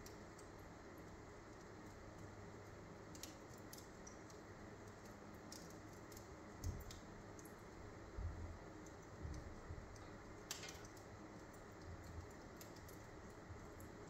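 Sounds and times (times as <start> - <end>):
steady fire hiss: 0.0 - 14.0
wood fire crackling: 0.0 - 14.0.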